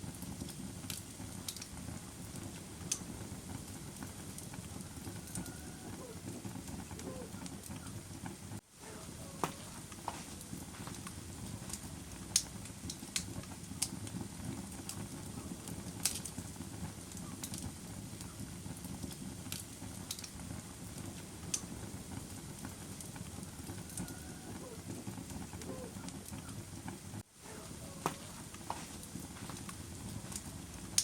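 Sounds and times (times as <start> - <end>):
fire crackling and popping: 0.0 - 31.0
low rumble of burning: 0.0 - 31.0.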